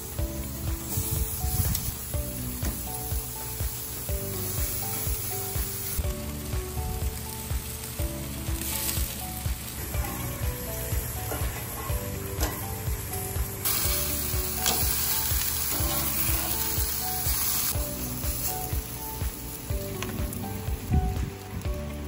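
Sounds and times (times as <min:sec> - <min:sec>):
meat sizzling on a grill: 0:00.0 - 0:22.0
soft background music: 0:00.0 - 0:22.0.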